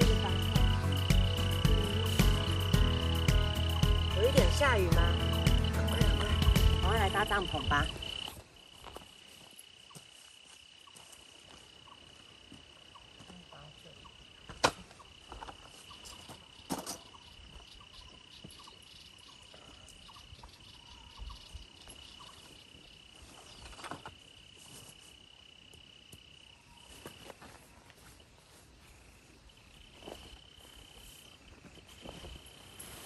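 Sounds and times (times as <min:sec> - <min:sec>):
high insect trill: 0:00.0 - 0:27.3.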